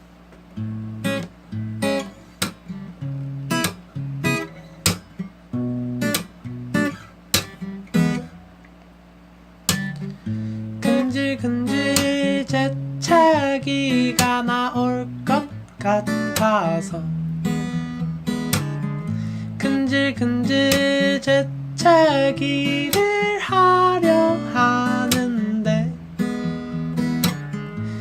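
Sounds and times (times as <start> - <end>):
acoustic guitar strumming and plucking: 0.3 - 28.0.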